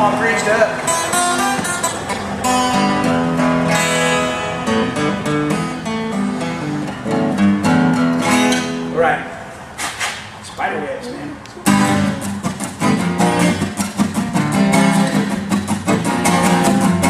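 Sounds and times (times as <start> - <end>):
acoustic guitar strumming: 0.0 - 10.4, 11.6 - 17.0.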